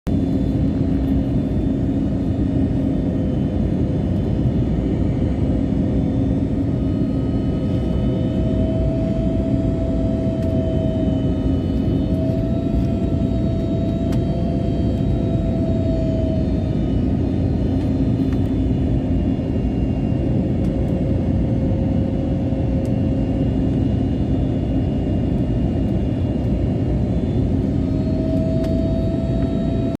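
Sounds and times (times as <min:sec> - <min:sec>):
airliner engine and airflow rumble: 0:00.1 - 0:30.0
faint hum tones: 0:00.1 - 0:30.0.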